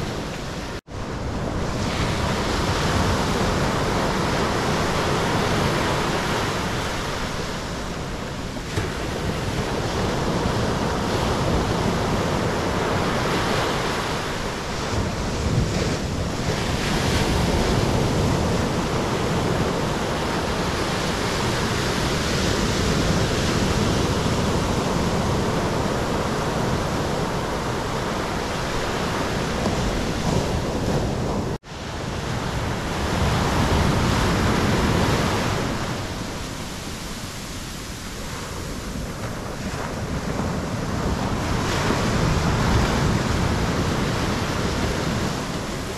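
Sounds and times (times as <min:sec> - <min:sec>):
surf washing up a beach: 0:00.0 - 0:45.9.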